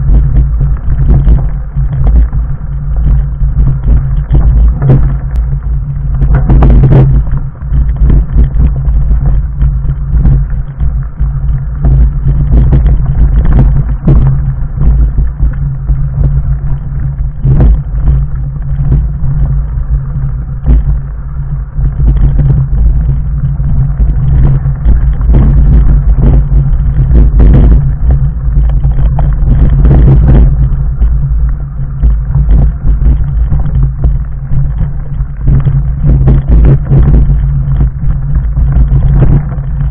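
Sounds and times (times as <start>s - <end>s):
bike tyres rumbling on stony trail: 0.0s - 39.9s.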